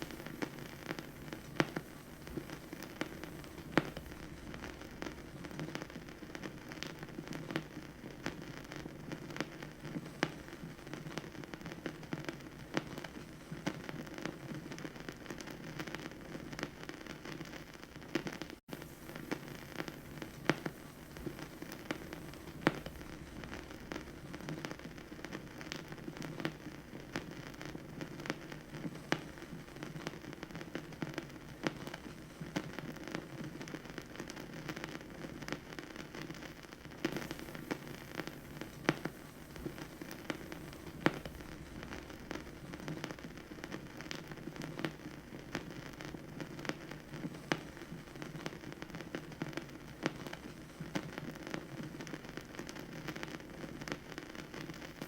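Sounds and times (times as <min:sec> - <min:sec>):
record rumble and hiss: 0:00.0 - 0:55.0
vinyl crackles and pops: 0:00.0 - 0:55.0.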